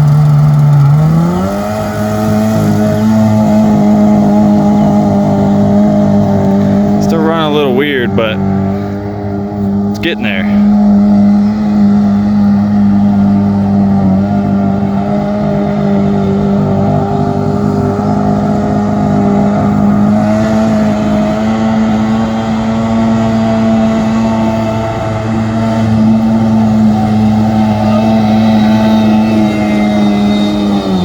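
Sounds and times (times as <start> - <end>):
boat engine running hard: 0.0 - 31.0.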